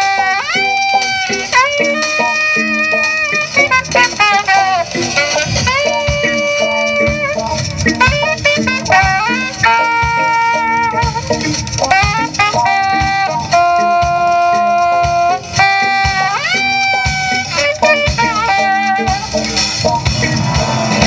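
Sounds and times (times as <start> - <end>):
bass: 0.0 - 21.0
drum kit steady beat: 0.0 - 21.0
saxophone melody: 0.0 - 21.0.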